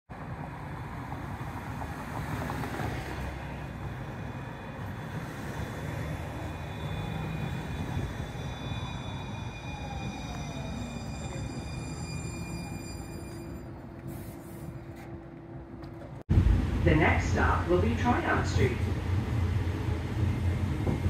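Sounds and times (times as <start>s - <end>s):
street traffic rumble: 0.1s - 21.0s
streetcar approaching: 0.1s - 21.0s
streetcar motor whine: 0.1s - 21.0s.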